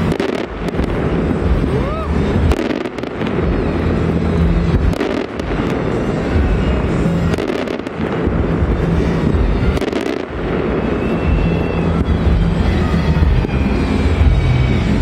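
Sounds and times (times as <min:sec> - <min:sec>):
fireworks bangs: 0:00.0 - 0:15.0
rumble of explosions: 0:00.0 - 0:15.0.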